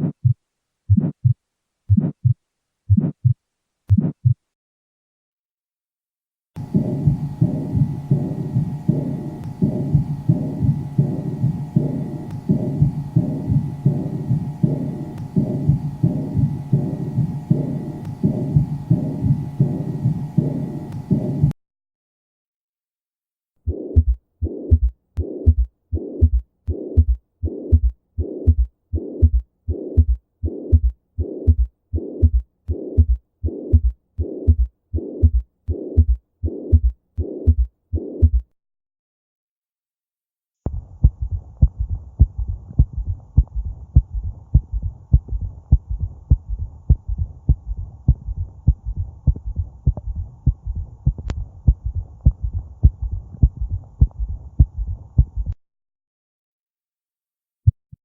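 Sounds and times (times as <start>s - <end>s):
heartbeat through stethoscope: 0.0s - 4.4s, 6.6s - 21.5s, 23.6s - 38.5s, 40.7s - 55.6s, 57.6s - 58.0s.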